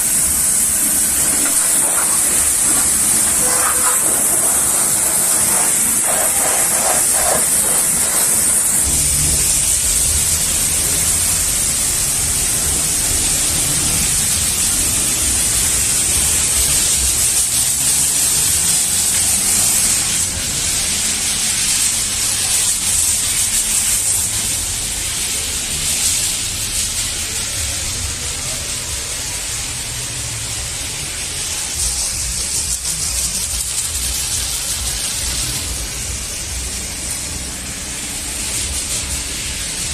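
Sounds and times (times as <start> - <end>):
pressure washer spraying: 0.0 - 27.9, 30.7 - 39.9.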